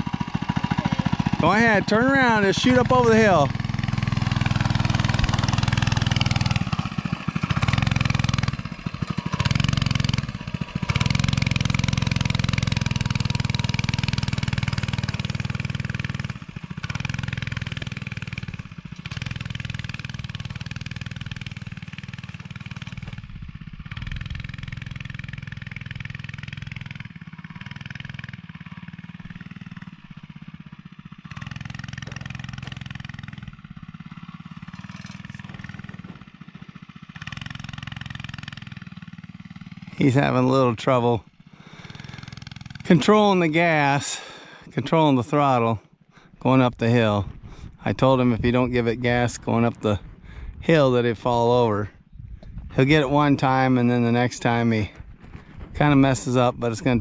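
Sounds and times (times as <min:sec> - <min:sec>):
minibike engine revving: 0:00.0 - 0:45.8.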